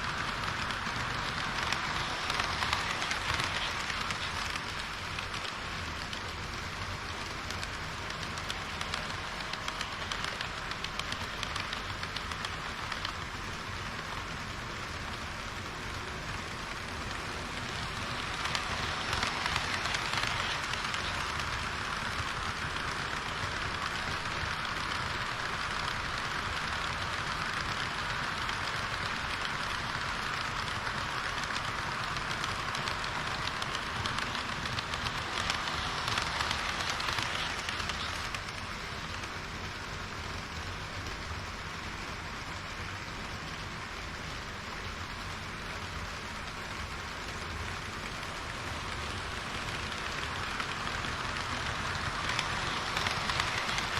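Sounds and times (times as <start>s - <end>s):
fine rapid clicks: 0.0s - 53.9s
model train rolling on track: 0.0s - 53.9s.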